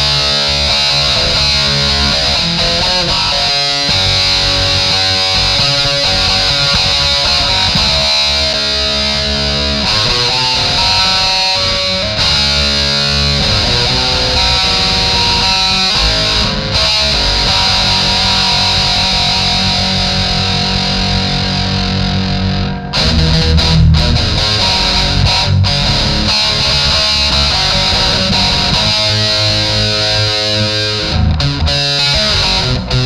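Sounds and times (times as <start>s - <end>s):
distorted electric guitar: 0.0s - 33.0s.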